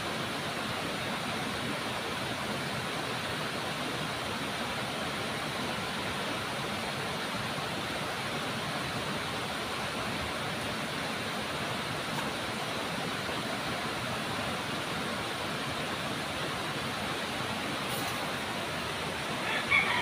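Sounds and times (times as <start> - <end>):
river water rushing over weir: 0.0 - 20.0.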